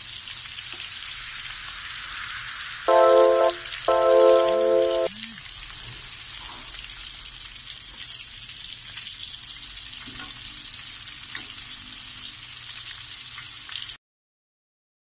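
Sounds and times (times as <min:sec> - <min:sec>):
deep-frying sizzle with pops: 0:00.0 - 0:14.0.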